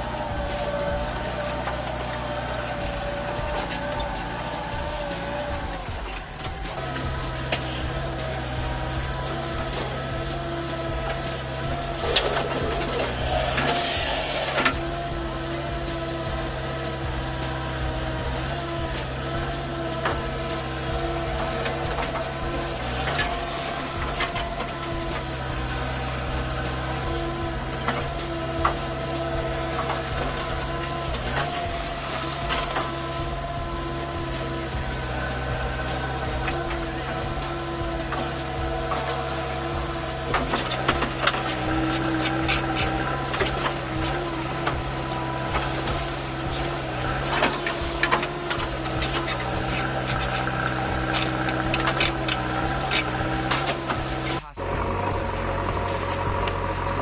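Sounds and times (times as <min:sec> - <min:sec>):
diesel engine running: 0:00.0 - 0:57.0
digger bucket clanking and scraping: 0:00.0 - 0:57.0
hydraulic whine: 0:00.0 - 0:57.0.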